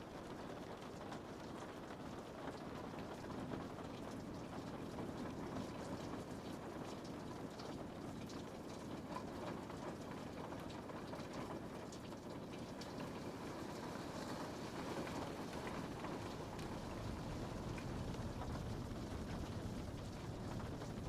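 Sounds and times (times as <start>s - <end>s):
rain on a window: 0.0s - 21.0s.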